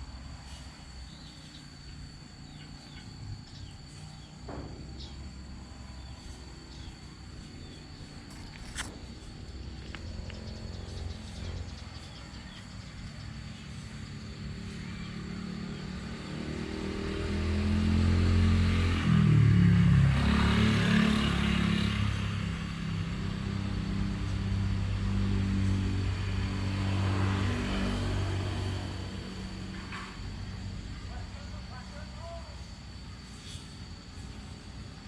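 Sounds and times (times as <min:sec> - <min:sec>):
vehicle engine running: 0:00.0 - 0:33.1.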